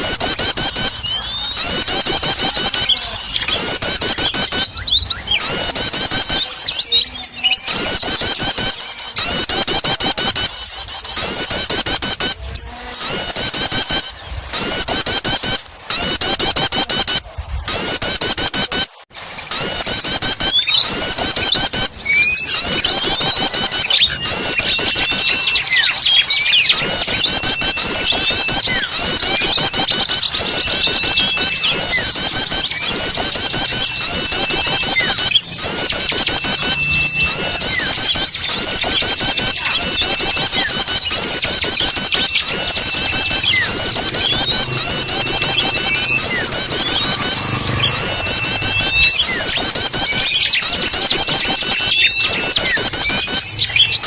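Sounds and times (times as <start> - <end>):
songbirds chirping: 0.0 - 9.6, 19.2 - 54.0
looping bird whistles: 0.0 - 16.6, 19.2 - 54.0.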